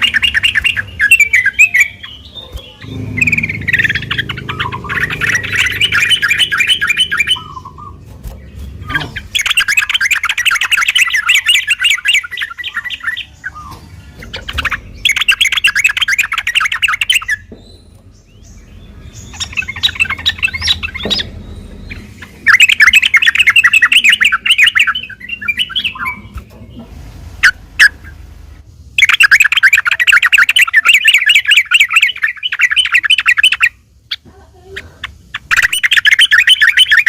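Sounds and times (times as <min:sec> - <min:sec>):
bird singing chattering phrases: 0:00.0 - 0:28.2, 0:29.0 - 0:37.0.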